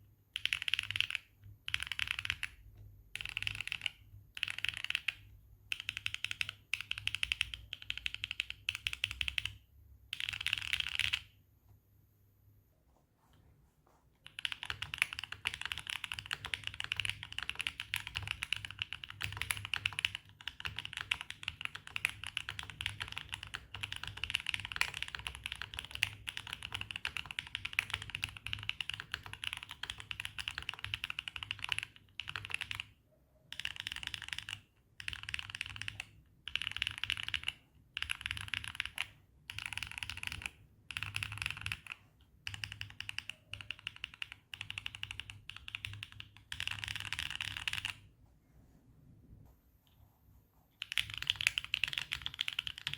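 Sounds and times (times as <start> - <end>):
fast typing on mechanical keyboard: 0.3 - 11.3, 14.2 - 48.1, 50.8 - 52.9.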